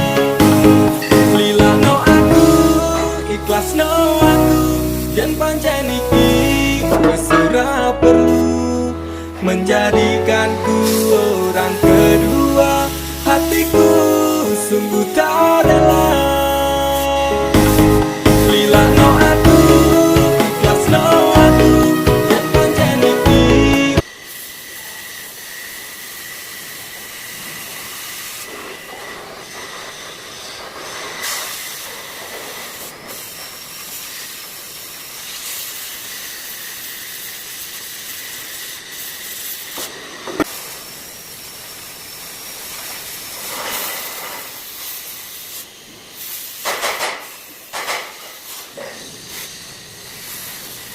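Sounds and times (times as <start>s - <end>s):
cutting torch hissing: 0.0s - 50.9s.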